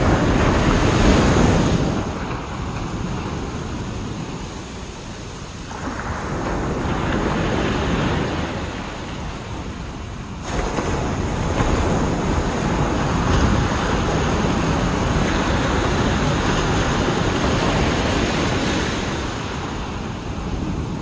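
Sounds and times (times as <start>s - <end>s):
ocean waves breaking on beach: 0.0s - 21.0s
wind buffeting microphone: 0.0s - 21.0s.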